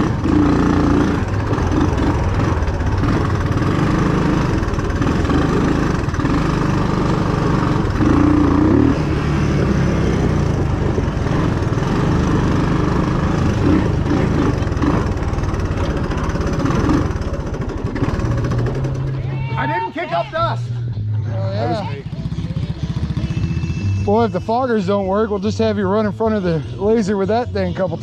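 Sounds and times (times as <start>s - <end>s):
small vehicle engine running: 0.0s - 19.9s, 21.6s - 25.0s.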